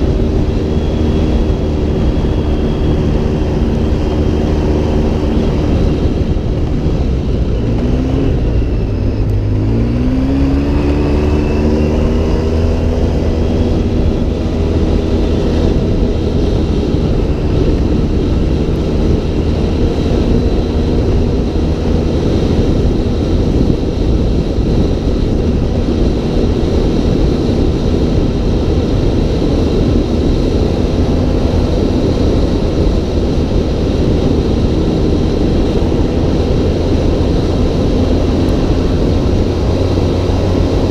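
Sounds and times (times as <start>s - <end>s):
dense rushing noise: 0.0s - 40.9s
off-road vehicle engine revving: 0.0s - 40.9s.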